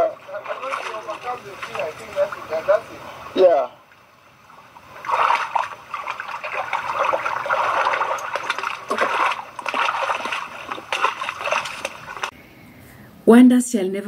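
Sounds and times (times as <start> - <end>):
stream water splashing and trickling: 0.0 - 12.4.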